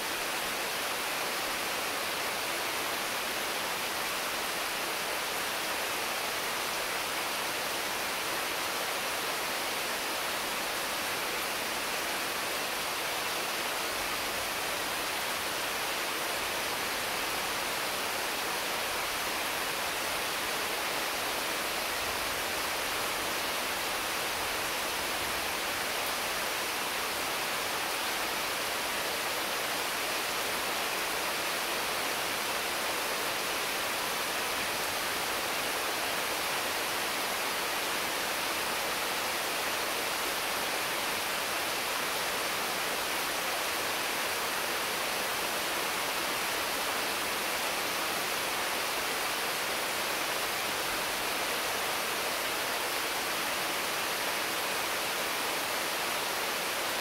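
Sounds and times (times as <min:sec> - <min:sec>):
heavy rain on trees: 0:00.0 - 0:57.0.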